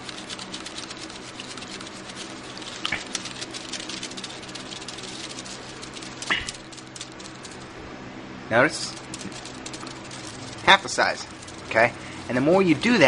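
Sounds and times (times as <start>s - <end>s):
wire strainer rubbing in wet clay: 0.0s - 7.8s, 8.6s - 13.0s.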